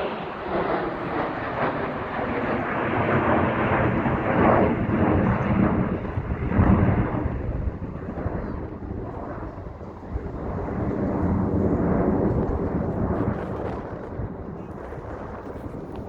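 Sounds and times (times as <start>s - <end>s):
airplane flying past: 0.0s - 16.0s.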